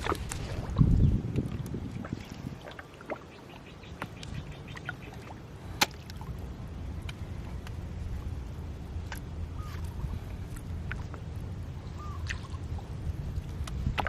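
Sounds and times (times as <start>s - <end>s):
low wind rumble: 0.0s - 14.0s
water sounds: 0.0s - 14.0s.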